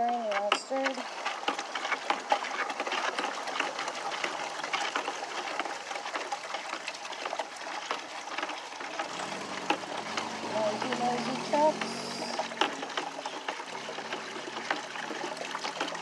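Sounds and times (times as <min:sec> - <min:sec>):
water pouring into bucket: 0:00.0 - 0:16.0.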